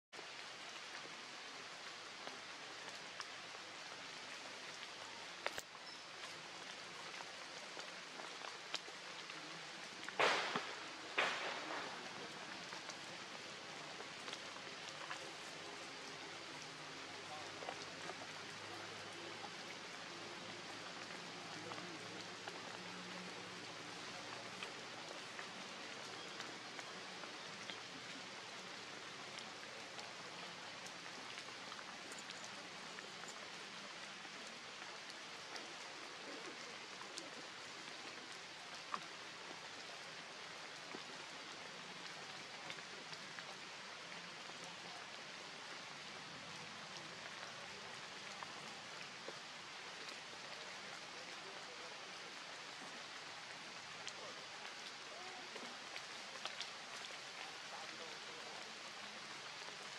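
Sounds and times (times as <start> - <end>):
rain falling on leaves: 0.1 - 59.9
water drip ticks: 0.2 - 59.9.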